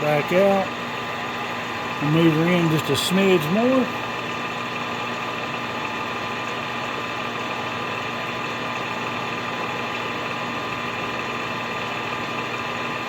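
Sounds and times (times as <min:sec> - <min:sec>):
metal lathe humming and whining: 0:00.0 - 0:13.0.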